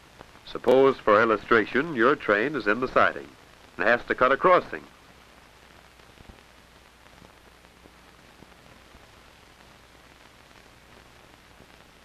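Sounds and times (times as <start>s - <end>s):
faint clicks and pops: 0.0s - 2.0s, 2.7s - 12.0s
film soundtrack hiss: 0.0s - 12.0s.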